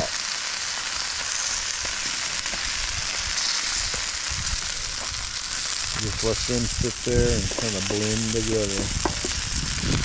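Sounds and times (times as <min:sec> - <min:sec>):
food sizzling on a griddle: 0:00.0 - 0:10.0.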